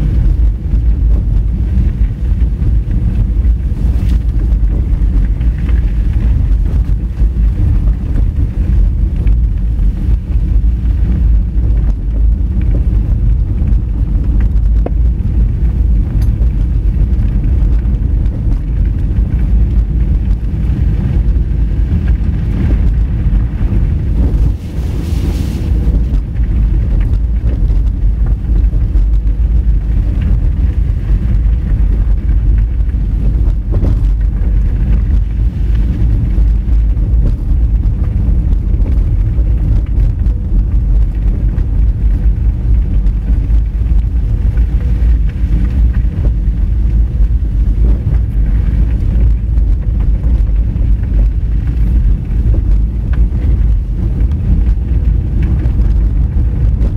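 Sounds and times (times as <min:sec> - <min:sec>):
car rumbling on dirt road: 0:00.0 - 0:56.9.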